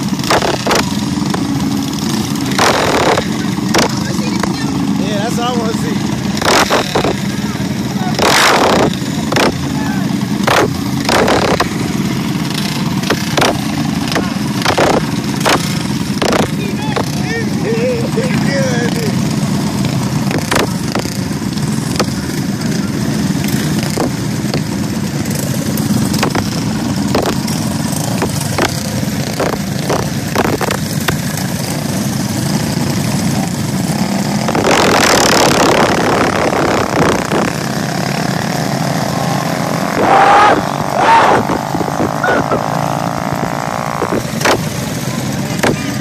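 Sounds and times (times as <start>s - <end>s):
mini bike engine running: 0.0s - 46.0s
rush of noise: 0.0s - 46.0s.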